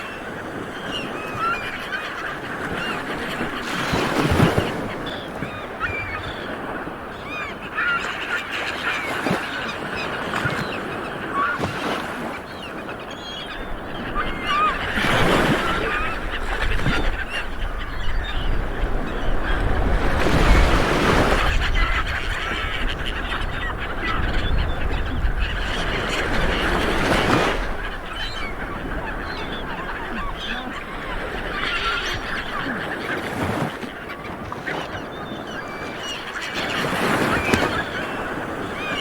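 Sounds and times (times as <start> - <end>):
birds calling: 0.0 - 39.0
small waves washing onto beach: 0.0 - 39.0.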